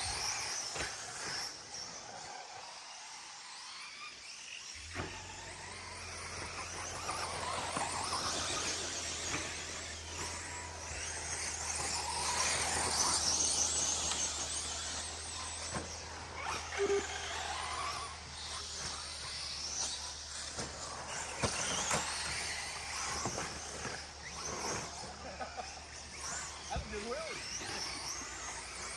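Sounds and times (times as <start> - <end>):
rc trucks motor whine: 0.0 - 28.9.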